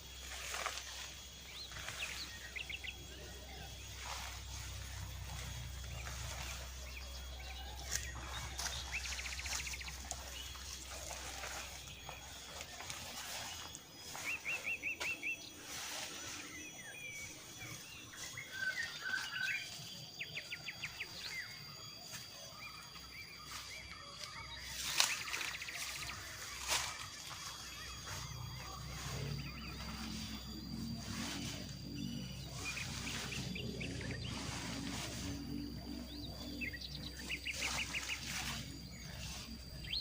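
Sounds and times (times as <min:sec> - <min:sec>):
birds chirping: 0:00.0 - 0:40.0
scattered bird notes: 0:00.0 - 0:40.0
thin steady high tone: 0:00.0 - 0:40.0.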